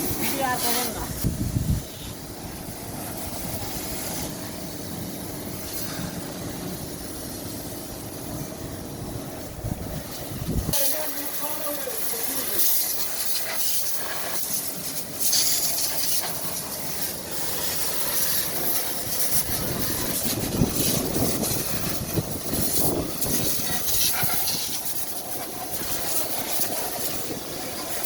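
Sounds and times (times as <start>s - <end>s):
high-pressure water spray hissing: 0.0s - 28.0s.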